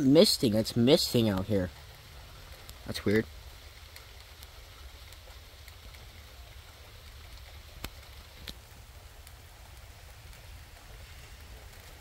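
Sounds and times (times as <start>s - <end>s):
light rain hiss: 0.0s - 12.0s
drops ticking on a surface: 1.2s - 12.0s.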